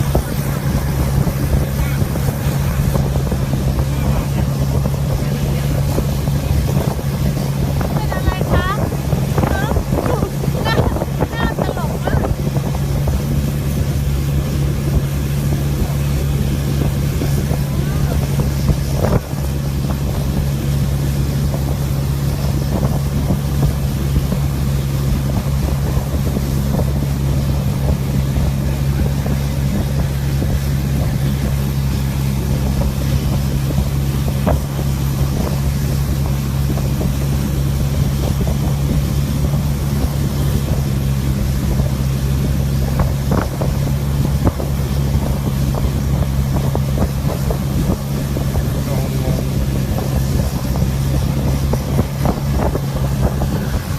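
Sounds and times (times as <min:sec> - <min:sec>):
motorboat engine drone: 0:00.0 - 0:53.9
wind buffeting microphone: 0:00.0 - 0:53.9.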